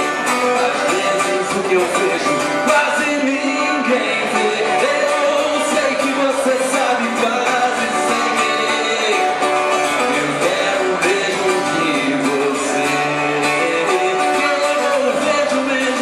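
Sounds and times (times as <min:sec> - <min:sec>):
guitar accompaniment: 0:00.0 - 0:16.0
man singing into a microphone: 0:00.0 - 0:16.0.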